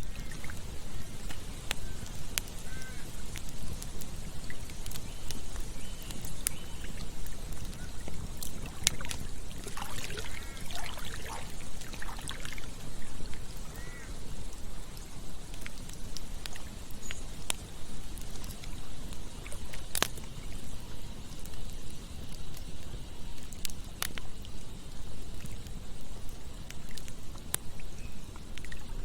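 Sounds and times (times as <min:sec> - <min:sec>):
campfire crackling and popping: 0:00.0 - 0:29.0
trickling gurgling water: 0:00.0 - 0:29.0.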